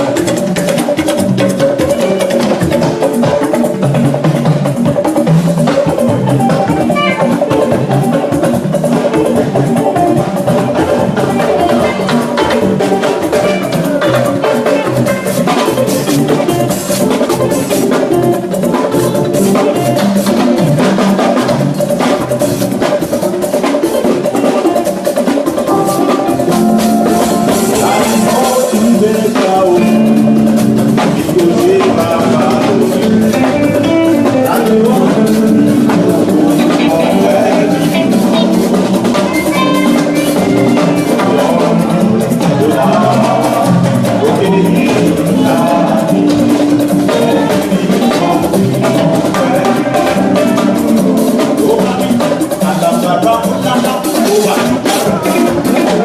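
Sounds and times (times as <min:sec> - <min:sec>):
band music: 0:00.0 - 0:56.0
drum kit playing a steady beat: 0:00.0 - 0:56.0.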